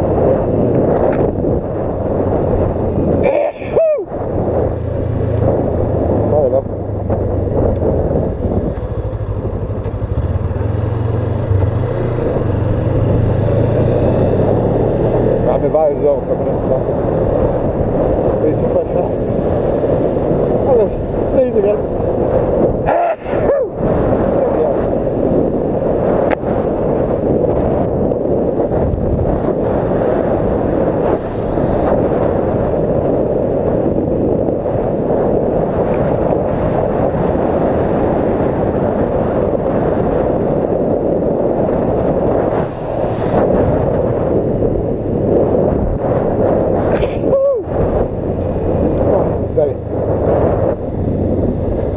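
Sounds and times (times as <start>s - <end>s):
motorcycle engine and road noise: 0.0s - 51.9s
wind buffeting microphone: 0.0s - 51.9s.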